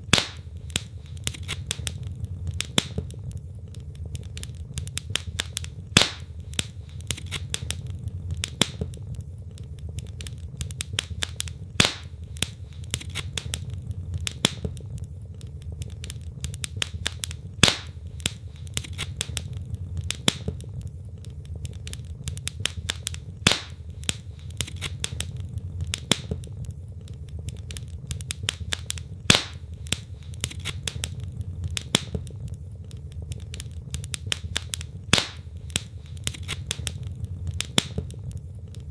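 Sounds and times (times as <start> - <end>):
low steady rumble: 0.0 - 38.9
sharp pop of burning wood: 0.0 - 38.9
wood fire crackling: 0.0 - 38.9.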